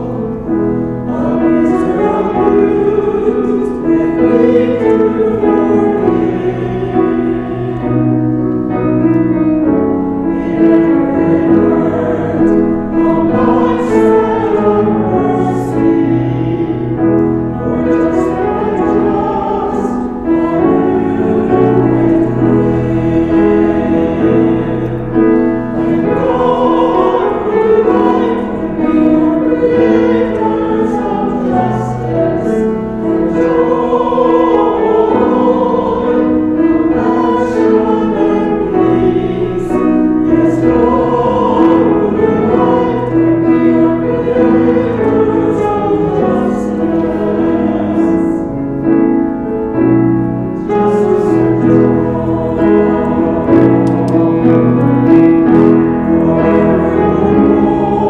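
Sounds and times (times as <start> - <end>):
choir singing a hymn: 0.0 - 58.0
piano accompaniment: 0.0 - 58.0.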